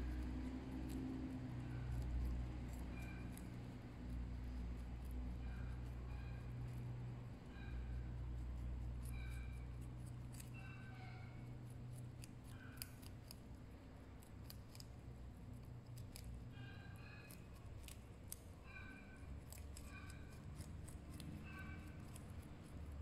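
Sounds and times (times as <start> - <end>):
rabbits crunching carrot: 0.0 - 23.0.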